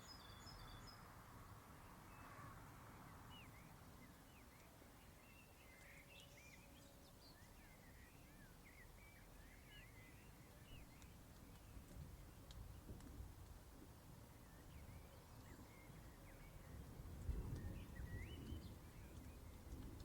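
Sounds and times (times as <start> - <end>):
small birds twittering: 0.0 - 2.3, 3.1 - 13.2, 14.2 - 20.0.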